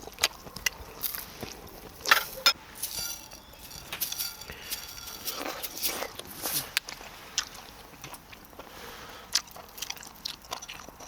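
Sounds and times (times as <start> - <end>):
chewing and biting: 0.0 - 2.4, 4.4 - 11.0.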